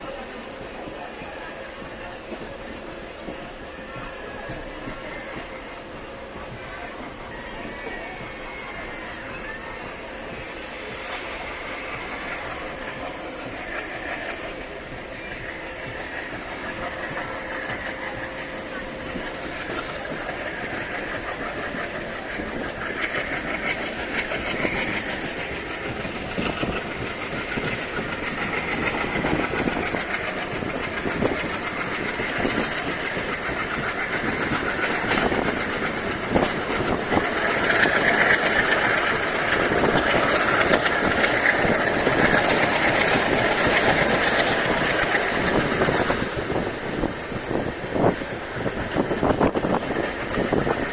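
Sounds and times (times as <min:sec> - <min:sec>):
train wheels clattering: 0:00.0 - 0:50.9.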